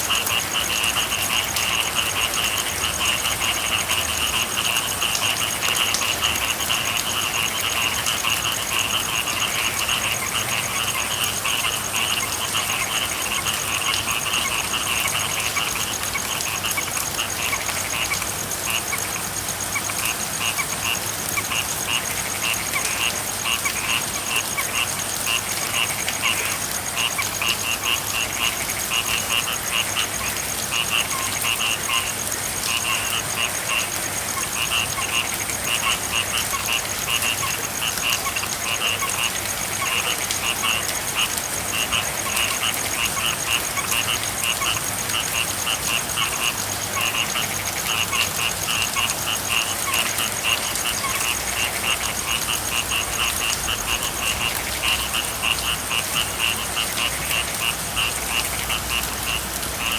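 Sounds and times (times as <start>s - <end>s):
frogs calling: 0.0s - 59.9s
steady rain: 0.0s - 59.9s.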